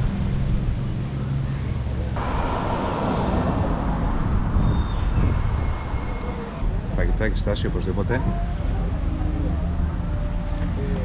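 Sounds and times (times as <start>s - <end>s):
road traffic rumbling hiss: 0.0s - 11.0s.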